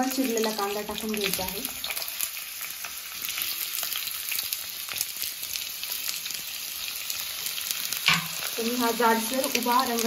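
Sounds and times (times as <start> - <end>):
onion frying in hot oil: 0.0 - 10.0.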